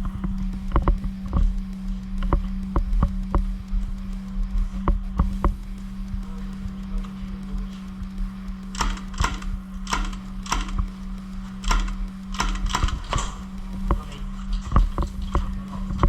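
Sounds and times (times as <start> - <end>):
sharp clicks and snaps: 0.0 - 16.0
steady low hum: 0.0 - 16.0.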